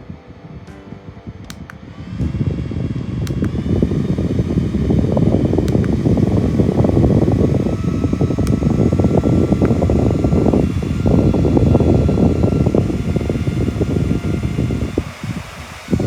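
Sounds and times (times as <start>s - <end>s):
rushing air noise: 0.0s - 16.0s.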